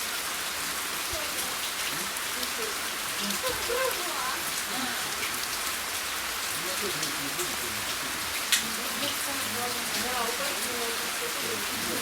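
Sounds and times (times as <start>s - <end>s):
falling water hiss and patter: 0.0s - 12.0s.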